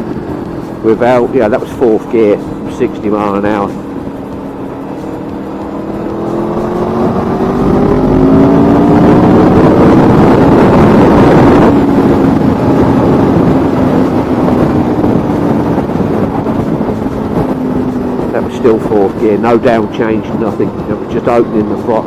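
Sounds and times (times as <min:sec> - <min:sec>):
motorcycle engine accelerating: 0:00.0 - 0:22.0
wind over microphone: 0:00.0 - 0:22.0.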